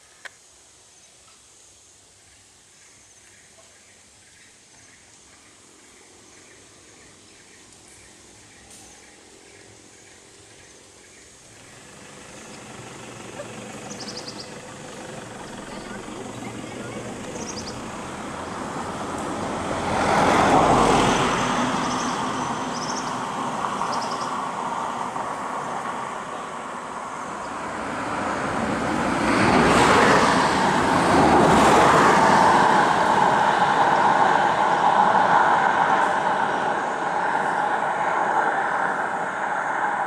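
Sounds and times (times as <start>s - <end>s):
vehicle engine and tyre noise: 3.2s - 40.0s.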